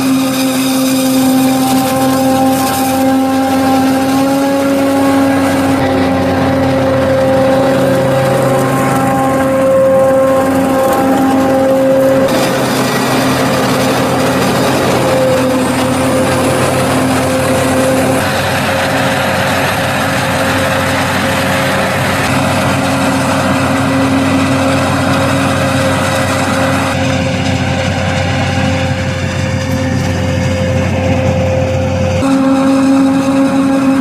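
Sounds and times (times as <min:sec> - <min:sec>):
forage harvester machine drone: 0:00.0 - 0:34.0.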